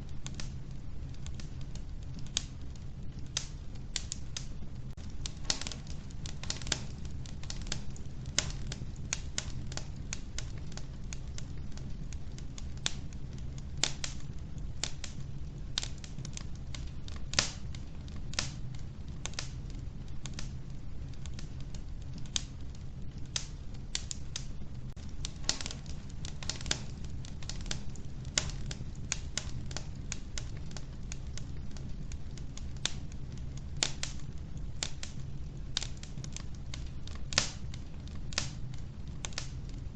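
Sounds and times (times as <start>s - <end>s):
wood fire crackling and snapping: 0.0s - 39.9s.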